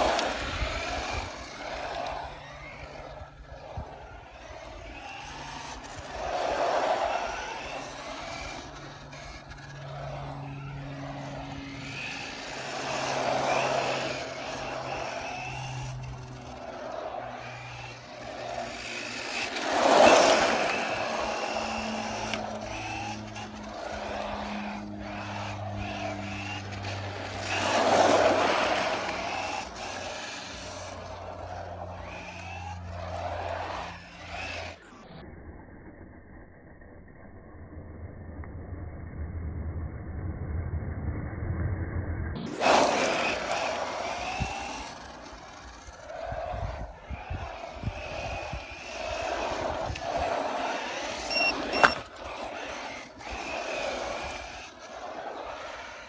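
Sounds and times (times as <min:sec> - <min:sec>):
rc truck motor whining: 0:00.0 - 0:38.8, 0:42.4 - 0:56.0.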